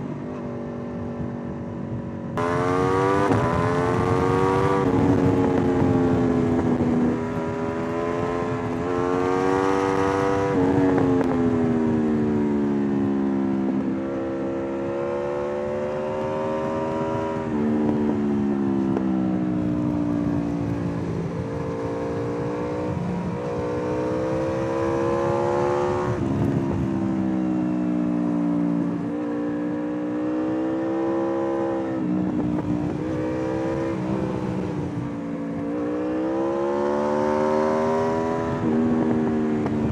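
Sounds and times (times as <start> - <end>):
wind and road noise: 0.0 - 39.9
motorcycle engine revving: 2.4 - 12.3, 13.5 - 39.9.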